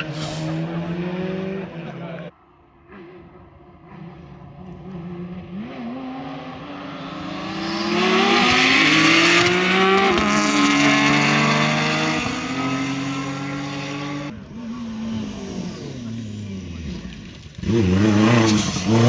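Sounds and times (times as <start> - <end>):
car engine accelerating: 2.9 - 19.0.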